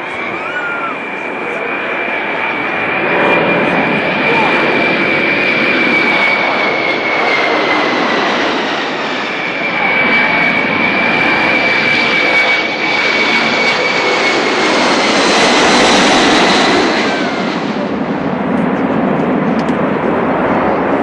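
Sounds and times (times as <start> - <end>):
high engine whine: 0.0 - 21.0
jet engines roaring: 0.0 - 21.0.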